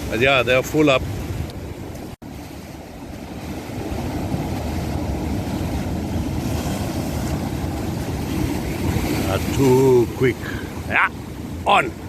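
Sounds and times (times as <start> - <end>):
sea surf: 0.0 - 12.0
wind on microphone: 0.0 - 12.0.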